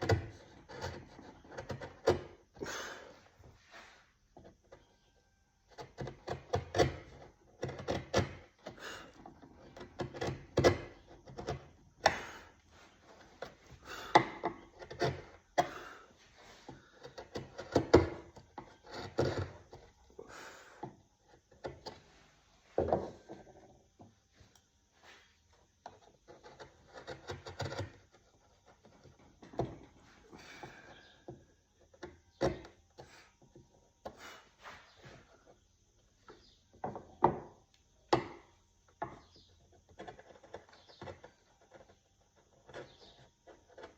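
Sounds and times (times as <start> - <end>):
hand tool carving wood: 0.0 - 3.1, 5.7 - 20.1, 20.7 - 22.1, 25.2 - 35.6, 36.3 - 43.9.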